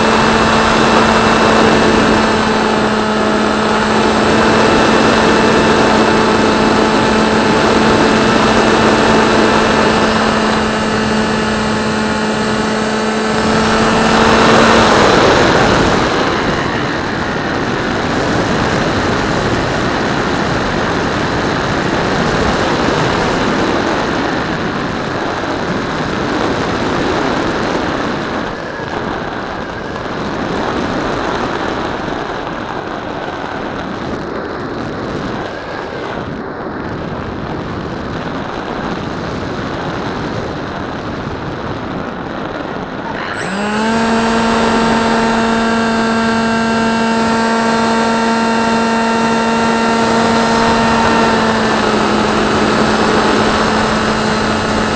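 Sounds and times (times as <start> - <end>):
electric motor and propeller whine: 0.0 - 54.9.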